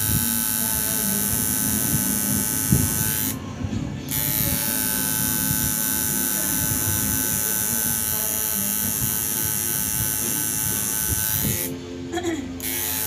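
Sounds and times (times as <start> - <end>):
tattoo machine buzzing: 0.0 - 3.4, 4.1 - 11.8, 12.6 - 13.0.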